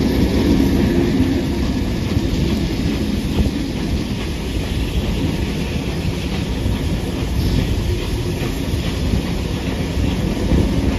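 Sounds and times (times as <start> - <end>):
carriage wheels on rails: 0.0 - 10.9
steam locomotives rumbling: 0.0 - 10.9.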